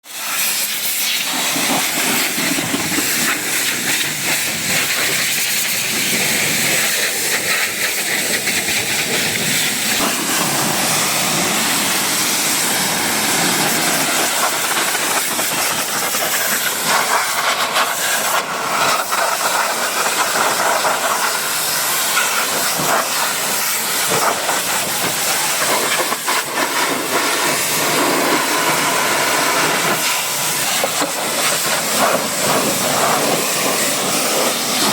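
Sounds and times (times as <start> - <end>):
pressure washer spraying car: 0.0 - 34.9.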